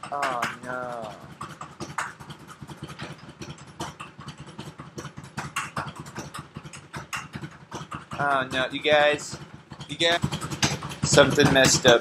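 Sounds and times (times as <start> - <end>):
rapid clicks and taps: 0.0 - 12.0.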